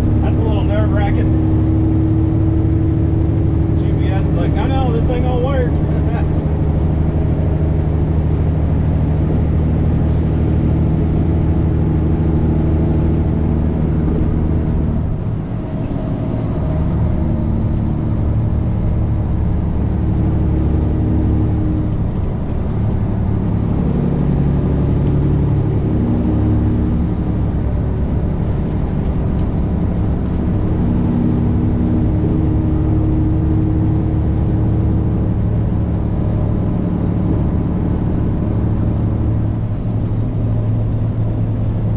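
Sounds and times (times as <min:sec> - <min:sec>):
road noise: 0:00.0 - 0:41.9
truck engine drone from cab: 0:00.0 - 0:41.9.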